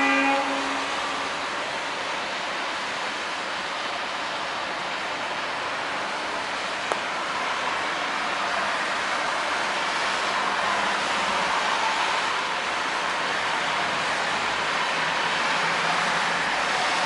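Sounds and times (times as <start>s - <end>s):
traffic on a wet street: 0.0s - 17.0s.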